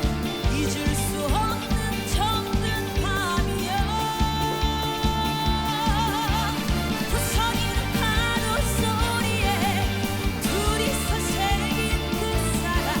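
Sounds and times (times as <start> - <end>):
band music: 0.0 - 13.0
steady drum beat: 0.0 - 13.0.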